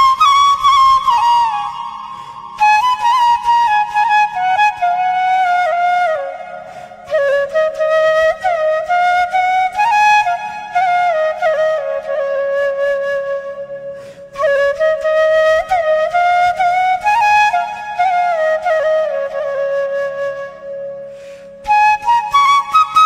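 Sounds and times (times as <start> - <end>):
solo flute melody: 0.0 - 23.0.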